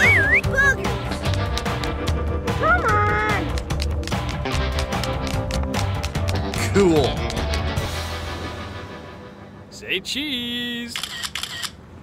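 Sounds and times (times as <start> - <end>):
background music with steady beat: 0.0 - 9.8.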